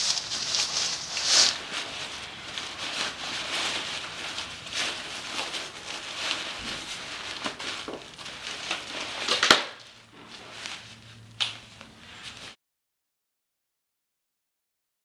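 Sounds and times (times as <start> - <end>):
fabric rustling and crinkling: 0.0 - 12.6.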